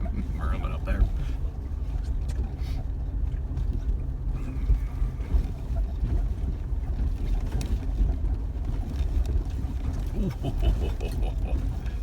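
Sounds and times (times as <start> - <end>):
low engine and drivetrain rumble: 0.0 - 12.0
road noise: 0.0 - 12.0.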